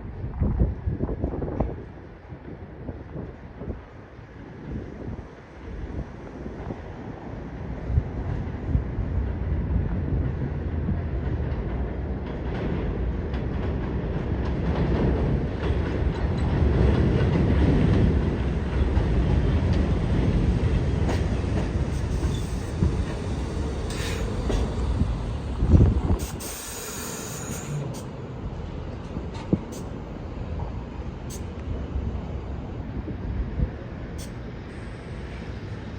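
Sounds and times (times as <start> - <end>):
train rumbling on elevated track: 0.0 - 35.9.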